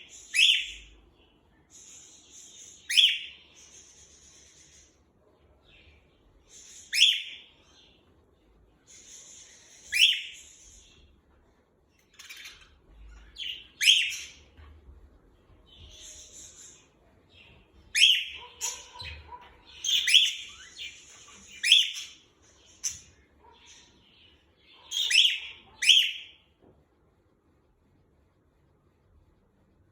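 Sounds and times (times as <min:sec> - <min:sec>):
soft high bird chatter: 0:00.0 - 0:26.5.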